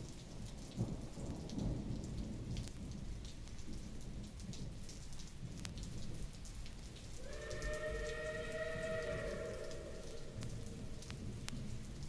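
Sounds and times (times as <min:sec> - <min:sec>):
low rumble of thunder: 0:00.0 - 0:06.4, 0:07.3 - 0:12.0
steady rain falling: 0:00.0 - 0:12.0.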